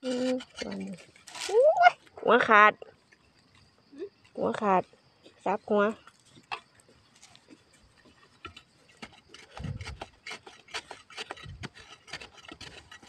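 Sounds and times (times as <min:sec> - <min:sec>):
knife scraping dry soil: 0:00.0 - 0:13.0.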